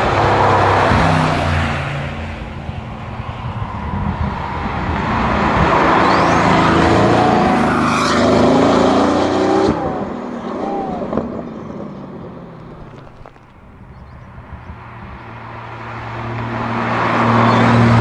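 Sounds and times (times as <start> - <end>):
sports car engines accelerating past: 0.0 - 12.5, 14.0 - 18.0.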